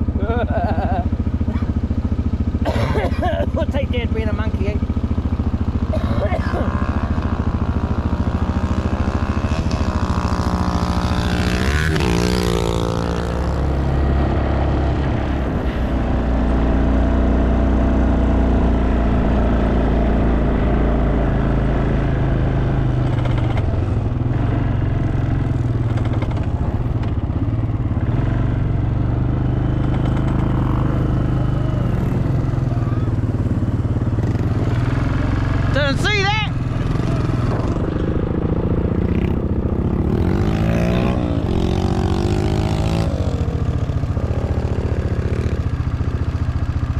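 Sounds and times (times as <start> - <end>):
quad bike engine running: 0.0 - 46.9.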